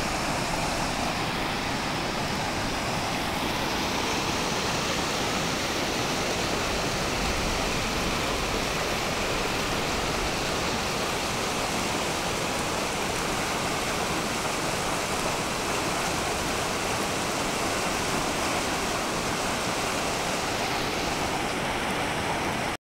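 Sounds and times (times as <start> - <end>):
floodwater rushing: 0.0 - 22.8.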